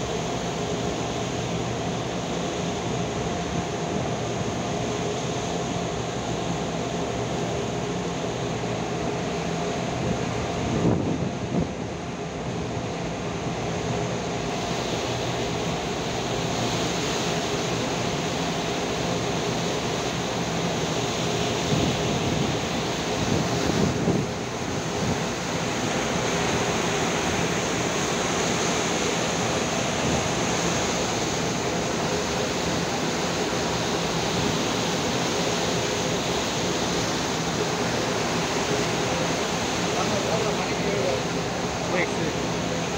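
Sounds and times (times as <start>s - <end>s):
boat engine hum: 0.0s - 42.9s
wind and sea water rushing: 0.0s - 42.9s.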